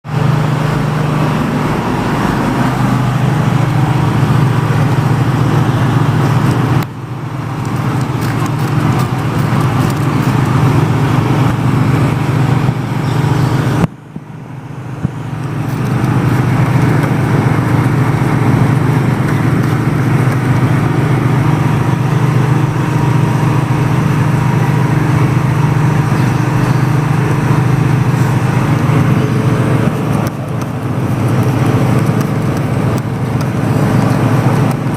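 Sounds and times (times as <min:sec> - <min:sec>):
low hum: 0:00.0 - 0:34.9
water spray hissing: 0:00.2 - 0:13.8, 0:15.1 - 0:34.9.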